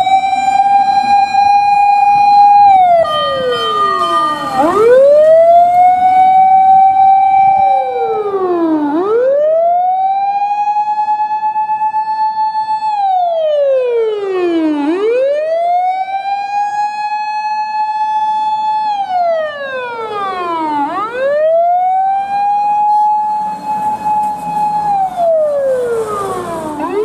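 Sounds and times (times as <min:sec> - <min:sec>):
fire engine siren wailing: 0:00.0 - 0:27.0.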